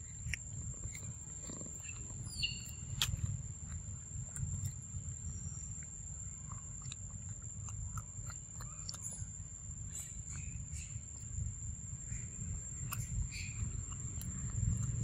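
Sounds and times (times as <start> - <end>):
monkey chewing fruit: 0.0 - 15.0
steady low rumble: 0.0 - 15.0.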